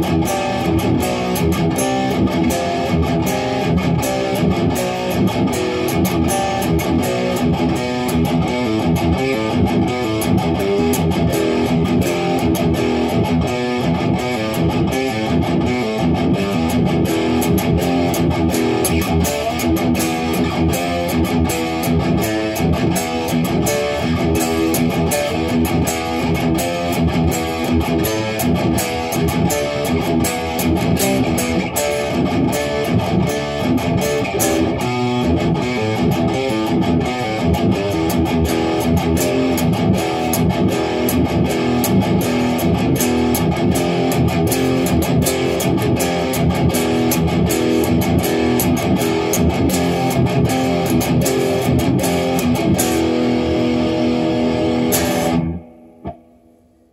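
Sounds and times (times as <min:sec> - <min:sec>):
electric guitar fast picking: 0:00.0 - 0:56.2.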